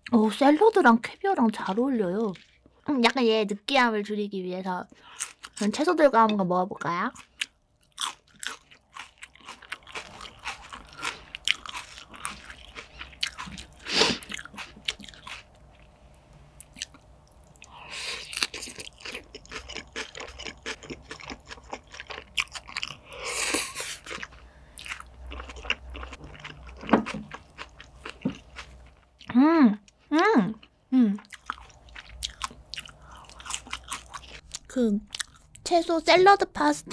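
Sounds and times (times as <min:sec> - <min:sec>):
chewing and crunching vegetables: 0:00.0 - 0:03.2, 0:04.8 - 0:15.9, 0:16.6 - 0:35.9.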